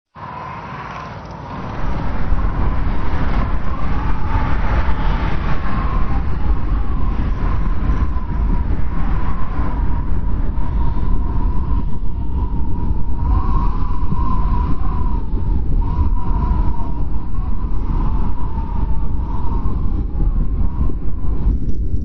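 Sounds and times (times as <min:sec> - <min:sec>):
blizzard wind blowing: 0:00.1 - 0:22.0
deep rumble: 0:00.2 - 0:22.0
wavering wind whistle: 0:00.2 - 0:22.0.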